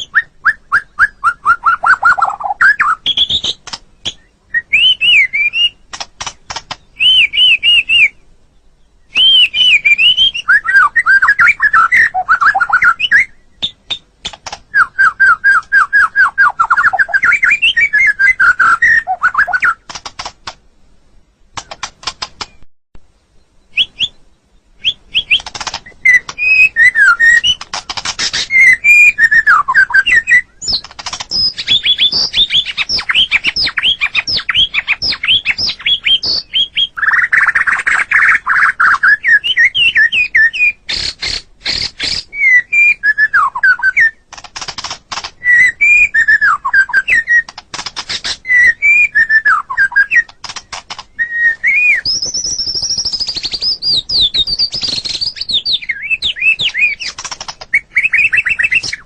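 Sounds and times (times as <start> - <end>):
bird singing whistles: 0.0 - 5.8, 6.8 - 8.2, 9.0 - 14.0, 14.6 - 19.8, 23.6 - 44.2, 45.4 - 47.5, 48.2 - 50.4, 51.1 - 59.0.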